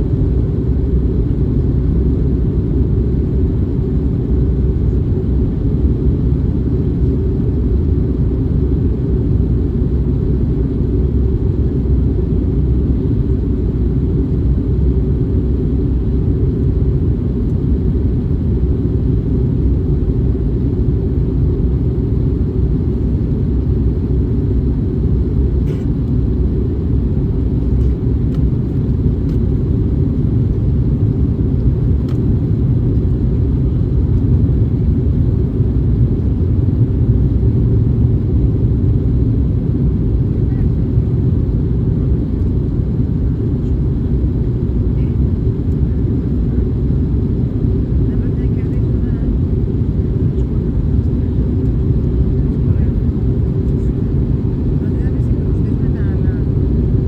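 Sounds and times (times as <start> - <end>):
aircraft cabin engine roar: 0.0 - 57.0.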